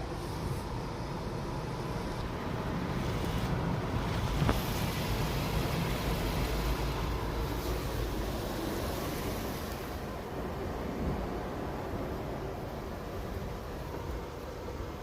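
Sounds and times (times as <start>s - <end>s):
car wash machinery rushing: 0.0s - 15.0s.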